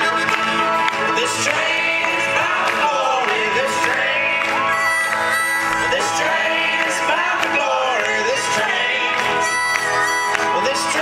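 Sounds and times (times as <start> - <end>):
acoustic guitars and banjo: 0.0 - 11.0
people singing: 1.0 - 9.8, 10.5 - 11.0.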